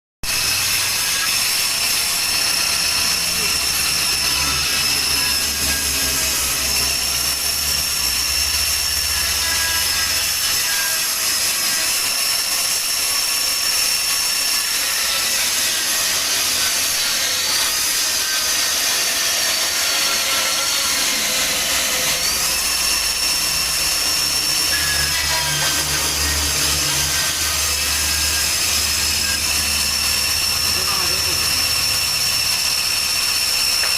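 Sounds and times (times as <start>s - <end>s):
bandsaw whining: 0.2s - 33.9s.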